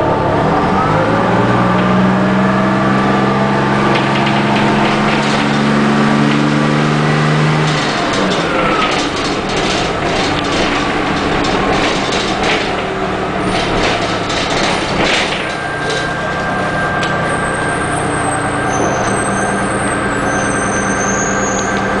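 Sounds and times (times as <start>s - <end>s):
bus diesel engine running: 0.0s - 22.0s
bus body rattles: 1.0s - 22.0s.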